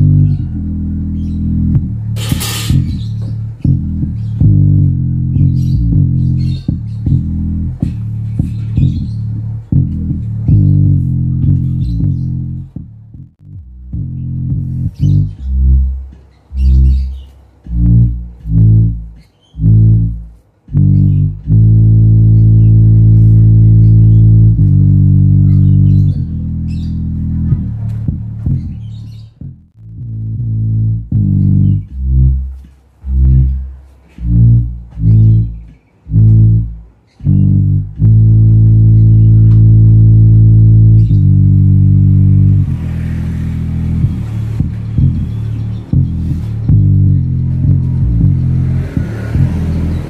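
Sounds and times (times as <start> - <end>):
loud bass-heavy music: 0.0 - 50.0.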